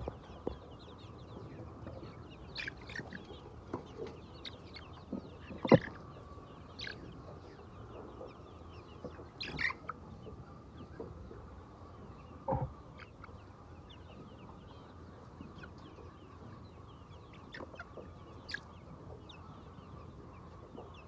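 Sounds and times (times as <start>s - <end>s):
chickens clucking: 0.0s - 21.0s
low steady hum: 0.0s - 21.0s.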